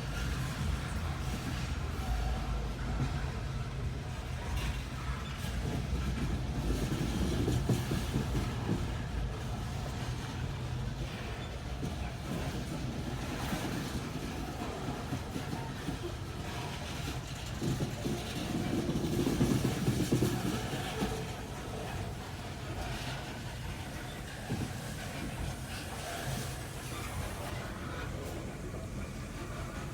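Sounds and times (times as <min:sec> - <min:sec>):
freight train rumbling: 0:00.0 - 0:29.9
wheel clatter on rails: 0:00.0 - 0:29.9.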